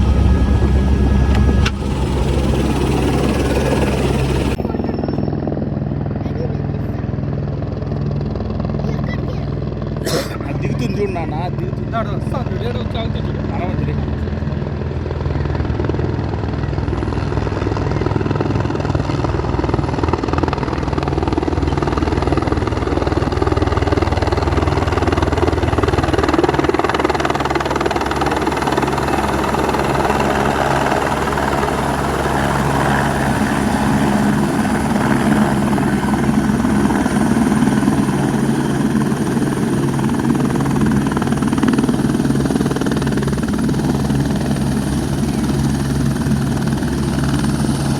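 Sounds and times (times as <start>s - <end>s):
helicopter rotor and turbine: 0.0s - 47.9s.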